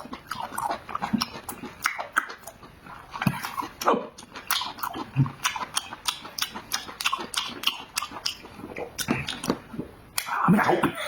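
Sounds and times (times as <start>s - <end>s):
person chewing food: 0.0s - 10.7s.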